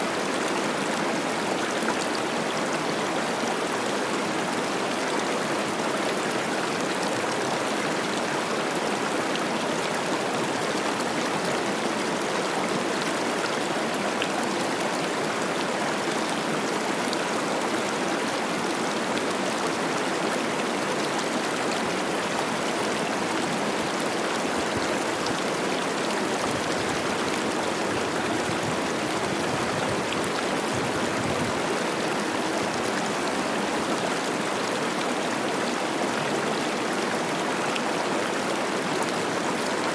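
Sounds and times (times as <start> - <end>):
river rushing over rocks: 3.1 - 39.9.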